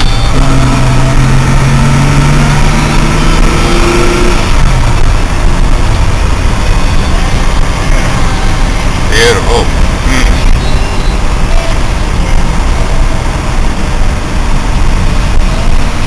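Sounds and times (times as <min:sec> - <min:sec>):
car engine running: 0:00.0 - 0:16.0
steady rushing noise: 0:00.0 - 0:16.0.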